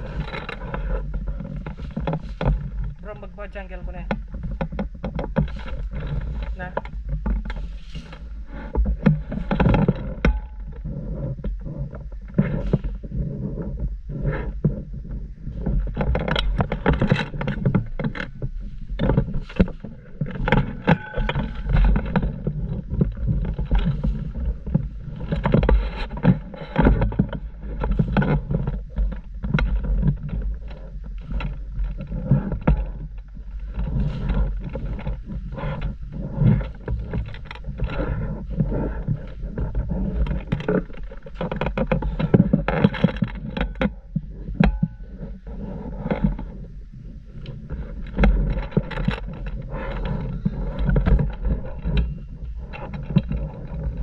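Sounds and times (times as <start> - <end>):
rustling: 0.0 - 54.0
steady low rumble: 0.0 - 54.0.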